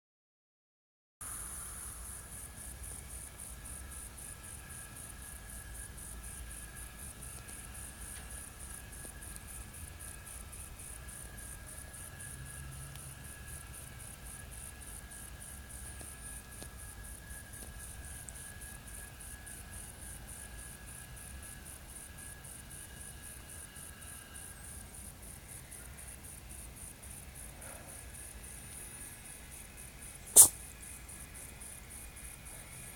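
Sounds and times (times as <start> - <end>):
insects chirping: 1.2 - 32.9
low background hum: 1.2 - 32.9.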